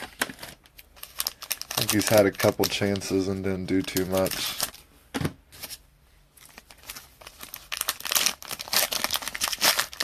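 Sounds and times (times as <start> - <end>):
card pack wrapper crinkling: 0.0 - 4.8, 6.4 - 10.0.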